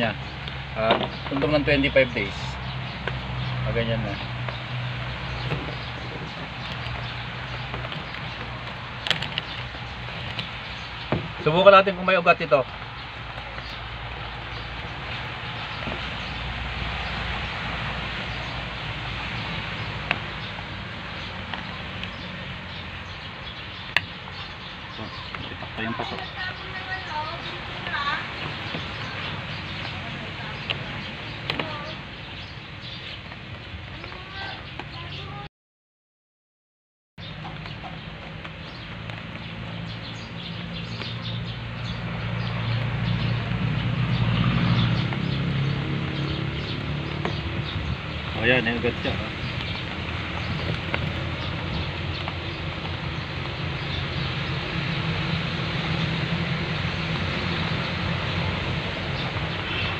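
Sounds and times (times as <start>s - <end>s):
fingers rustling through potting mix: 0.0s - 35.0s, 37.4s - 59.6s
outdoor background noise: 0.0s - 35.5s, 37.2s - 59.9s.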